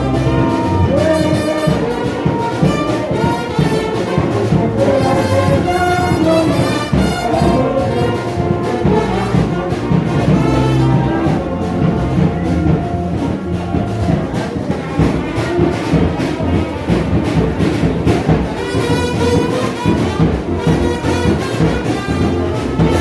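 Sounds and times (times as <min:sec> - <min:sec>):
brass instruments playing: 0:00.0 - 0:23.0
steady drum beat: 0:00.0 - 0:23.0.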